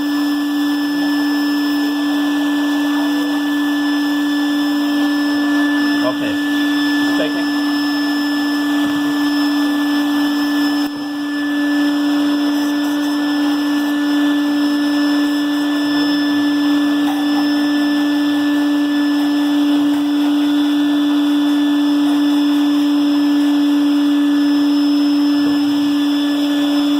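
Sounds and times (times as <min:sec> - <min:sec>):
shop vacuum motor running: 0:00.0 - 0:26.9.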